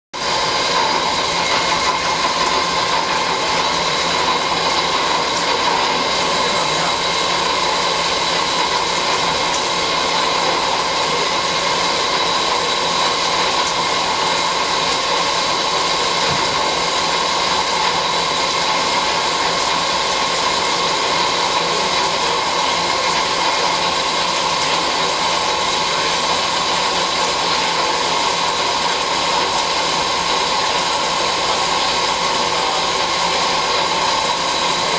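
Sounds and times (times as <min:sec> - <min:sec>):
lathe machining noise: 0:00.2 - 0:34.9.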